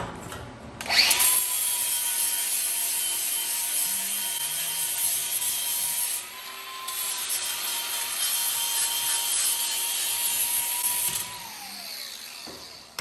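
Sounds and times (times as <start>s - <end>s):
power tool motor whine: 0.8s - 5.4s, 6.0s - 13.0s.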